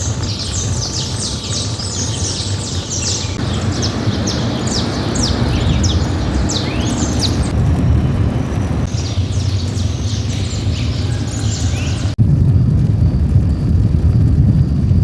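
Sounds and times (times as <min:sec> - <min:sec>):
birds chirping: 0:00.0 - 0:12.2
steady low rumble: 0:00.0 - 0:15.0.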